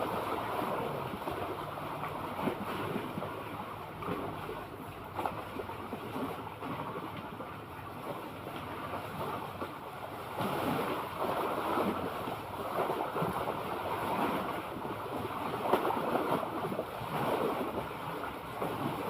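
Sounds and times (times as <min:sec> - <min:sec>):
sea waves washing: 0:00.0 - 0:19.0.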